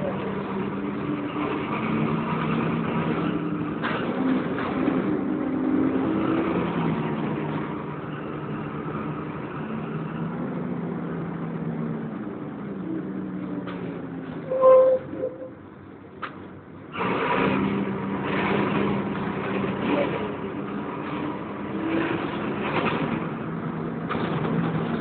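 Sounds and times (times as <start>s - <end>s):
bus diesel engine running: 0.0s - 25.0s
road noise: 0.0s - 25.0s.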